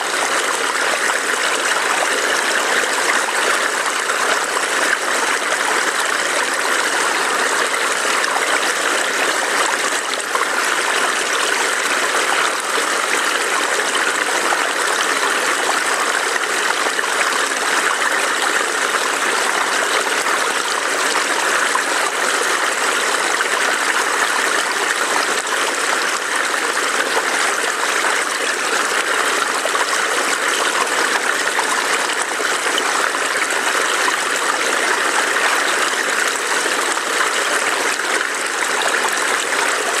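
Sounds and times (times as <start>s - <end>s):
stream burbling over rocks: 0.0s - 40.0s.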